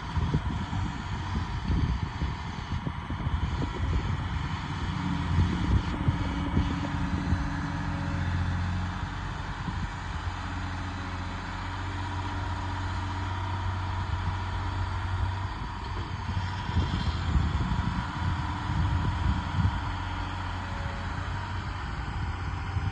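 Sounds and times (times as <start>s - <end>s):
excavator diesel engine running: 0.0s - 22.9s
thin steady whine: 0.0s - 22.9s.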